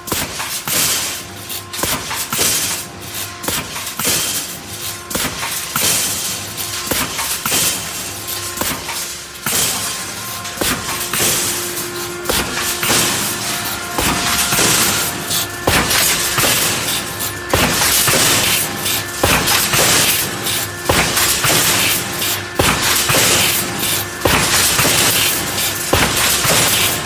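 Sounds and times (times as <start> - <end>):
steady machine hum: 0.0 - 27.0
welding machine clunk: 0.0 - 27.0.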